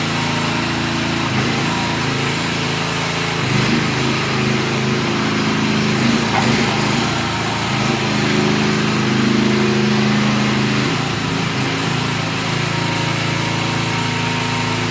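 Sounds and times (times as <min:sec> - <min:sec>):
mini excavator engine running: 0:00.0 - 0:14.9.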